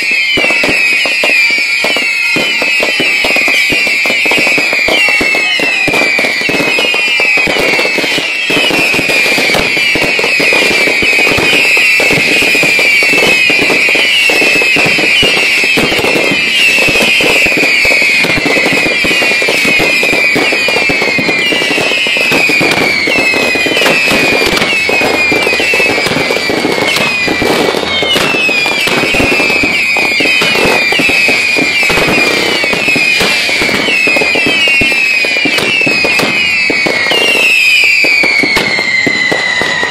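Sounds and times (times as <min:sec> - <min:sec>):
firework crackling and popping: 0:00.0 - 0:39.9
firework whistles falling in pitch: 0:00.0 - 0:39.9.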